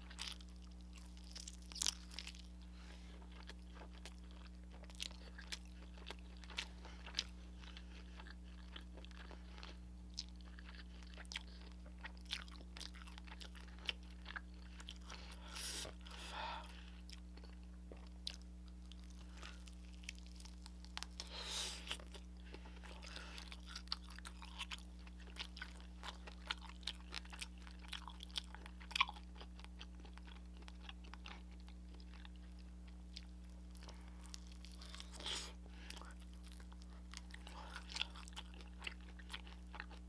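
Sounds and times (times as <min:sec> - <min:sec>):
chewing crunchy food: 0:00.0 - 0:40.0
low electrical hum: 0:00.0 - 0:40.0.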